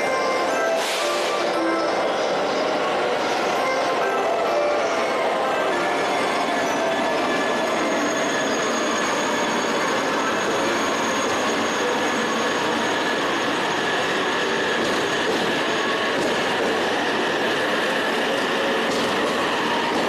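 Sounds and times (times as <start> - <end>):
train noise with high whine: 0.0 - 20.0.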